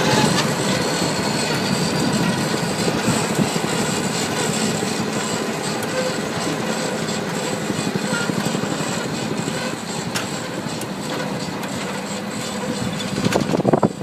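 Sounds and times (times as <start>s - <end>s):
machine running: 0.0s - 14.0s.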